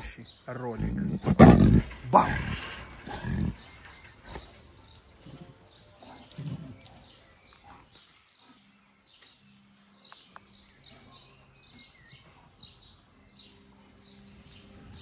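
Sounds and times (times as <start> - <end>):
faint songbirds chirping: 0.0 - 15.0.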